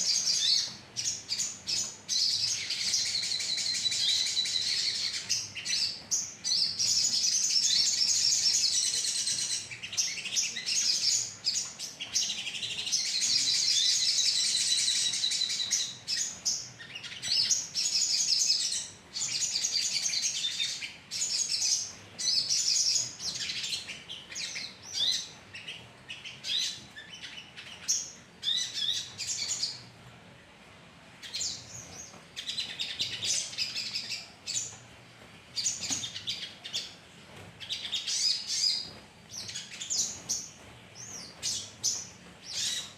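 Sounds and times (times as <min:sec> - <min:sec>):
songbirds chirping and trilling: 0:00.0 - 0:42.9.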